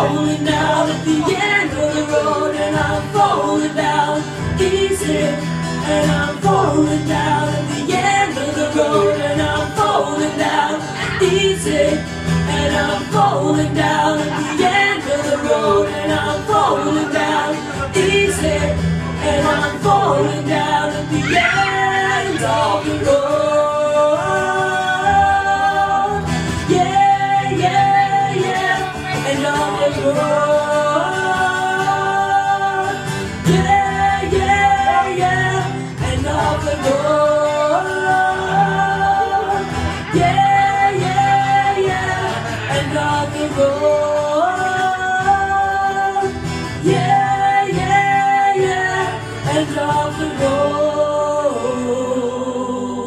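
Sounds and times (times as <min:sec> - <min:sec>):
man and woman singing: 0:00.0 - 0:53.0
strummed acoustic guitar: 0:00.0 - 0:53.0.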